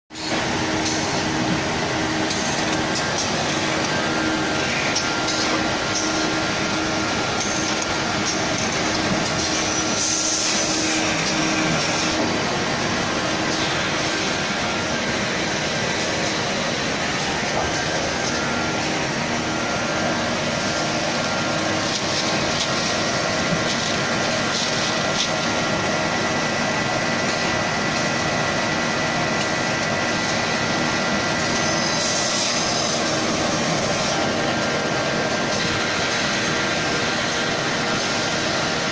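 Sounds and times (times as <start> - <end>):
packing machine mechanical din: 0.1 - 38.9.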